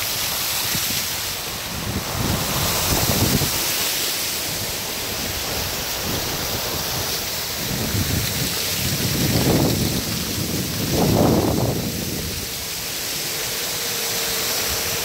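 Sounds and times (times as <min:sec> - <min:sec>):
tyre spraying through water: 0:00.0 - 0:15.0
waterfall pouring onto road: 0:00.0 - 0:15.0
wind buffeting microphone: 0:00.3 - 0:15.0.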